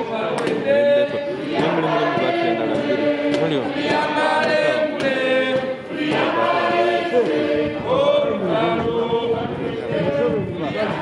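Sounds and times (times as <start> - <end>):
people singing in chorus: 0.0 - 11.0.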